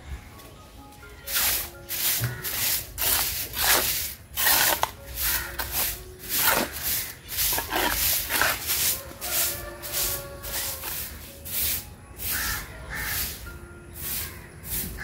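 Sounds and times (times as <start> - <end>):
broom scraping on cement: 1.3 - 15.0.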